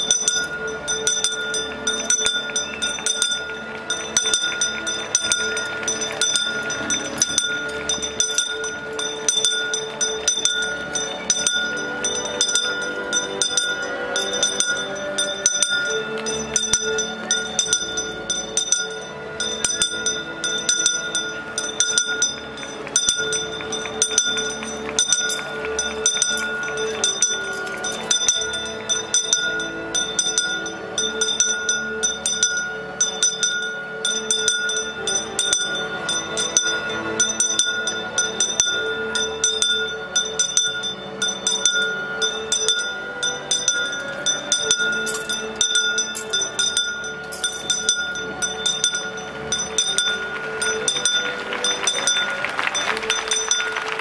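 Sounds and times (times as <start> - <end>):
small altar bells jangling: 0.0 - 54.0.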